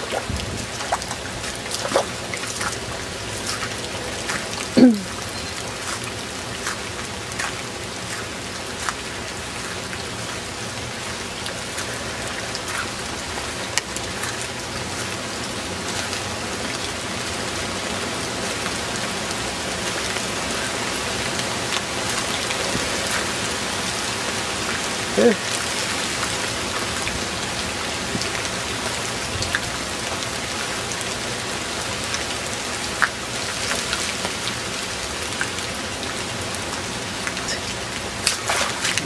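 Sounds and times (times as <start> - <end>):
rain on leaves and grass: 0.0 - 39.0.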